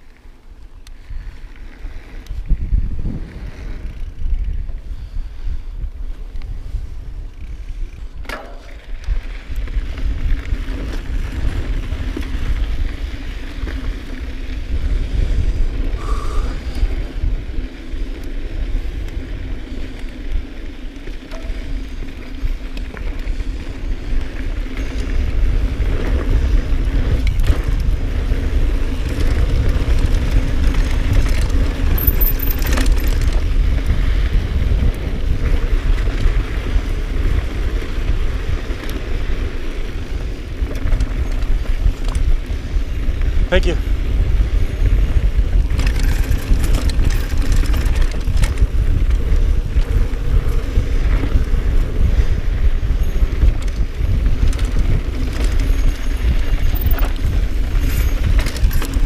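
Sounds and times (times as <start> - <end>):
bike clicks and rattles: 0.0 - 59.0
wind and tyre rumble: 0.0 - 59.0.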